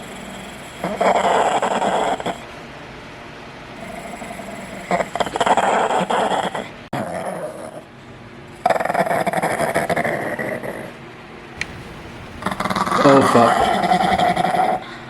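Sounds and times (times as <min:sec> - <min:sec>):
dog growling: 0:00.0 - 0:02.5, 0:03.8 - 0:07.9, 0:08.6 - 0:11.0, 0:11.6 - 0:15.0.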